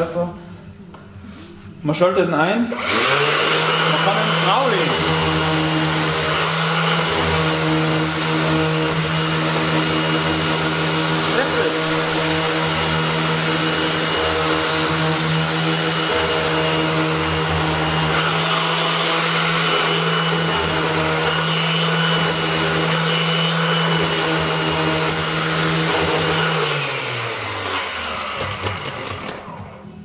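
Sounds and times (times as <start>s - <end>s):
orbital sander sanding wood: 2.8s - 29.3s.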